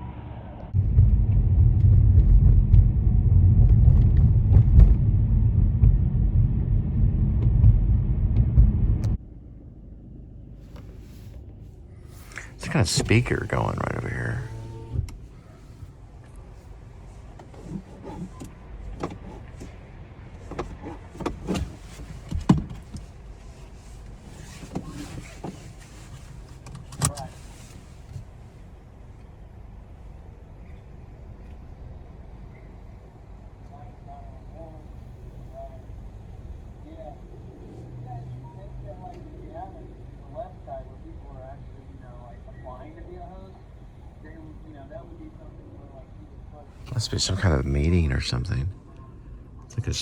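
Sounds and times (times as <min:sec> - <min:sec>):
wind and road noise in a car: 0:00.0 - 0:50.0.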